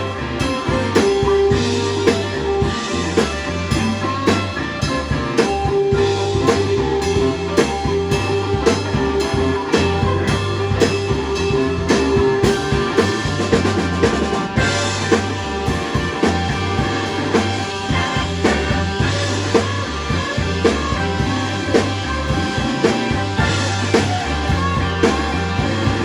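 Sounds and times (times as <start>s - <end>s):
drum kit beat: 0.0s - 26.0s
electric blues band playing: 0.0s - 26.0s
electric guitar sustained notes: 0.0s - 26.0s.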